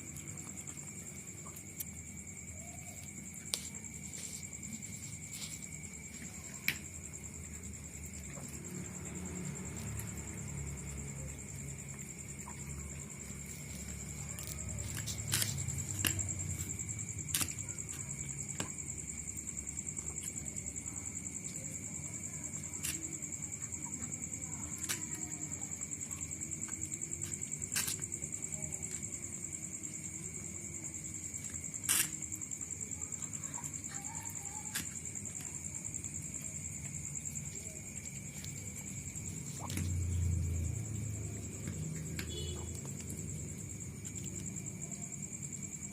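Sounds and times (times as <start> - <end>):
insects droning: 0.0 - 45.9.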